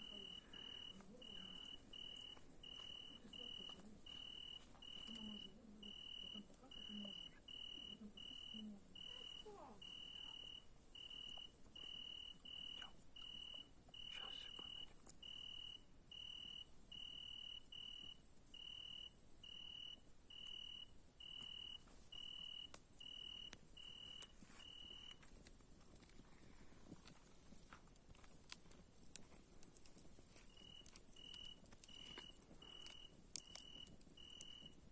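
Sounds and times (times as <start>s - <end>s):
crickets high-pitched trill: 0.0s - 27.4s, 30.4s - 34.9s
lower cricket chirp: 0.0s - 34.9s.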